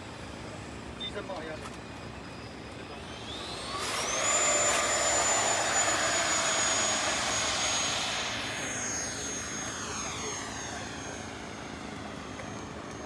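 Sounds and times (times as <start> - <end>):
jet engine high whine: 0.0 - 13.0.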